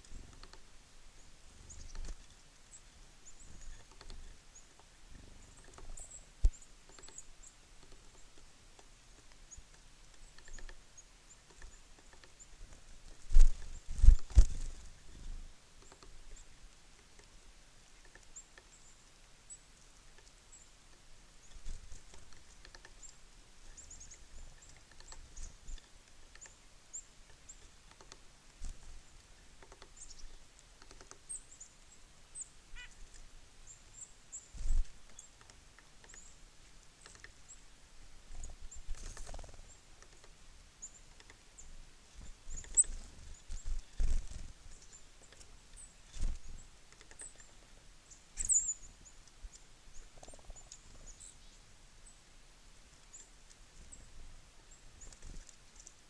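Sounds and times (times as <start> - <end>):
small birds chipping and twittering: 0.0 - 56.0.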